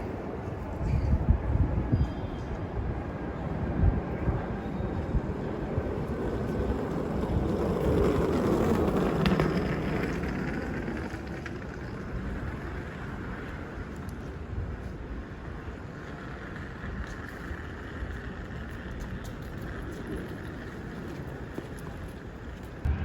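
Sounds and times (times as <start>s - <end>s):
city rumbling noise: 0.0s - 23.0s.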